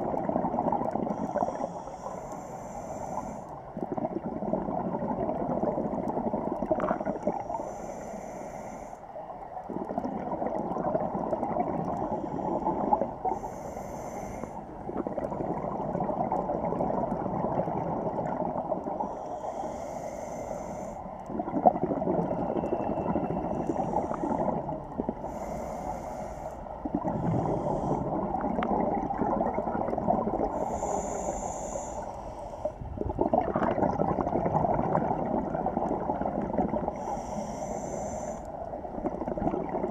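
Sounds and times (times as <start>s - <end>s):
exhaled bubbles gurgling: 0.0s - 8.4s, 9.2s - 39.9s
scuba regulator breathing underwater: 0.4s - 5.7s, 6.8s - 9.1s, 9.7s - 16.3s, 17.0s - 39.2s.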